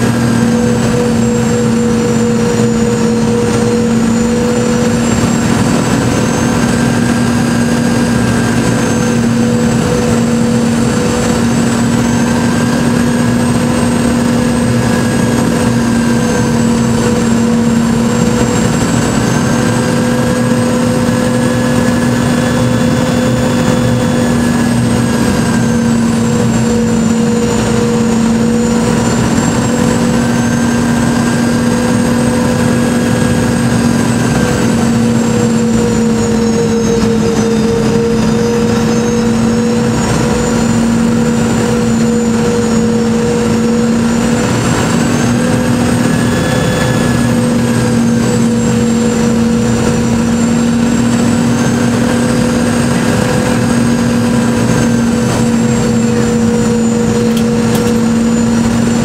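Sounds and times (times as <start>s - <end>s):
jet engine drone in cabin: 0.0s - 59.0s
whining engine tones: 0.0s - 59.0s.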